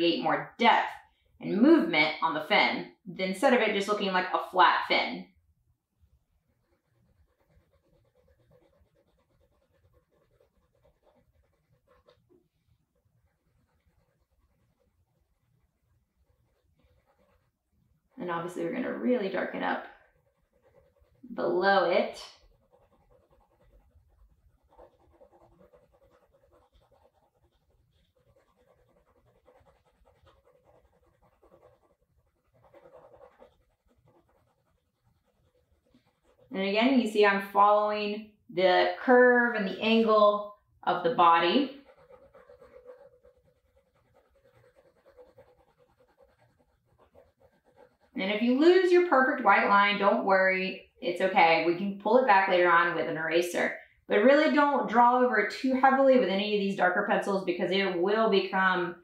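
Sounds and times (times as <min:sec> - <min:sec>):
pencil scratching on paper: 0:06.3 - 0:38.2, 0:38.8 - 0:59.0.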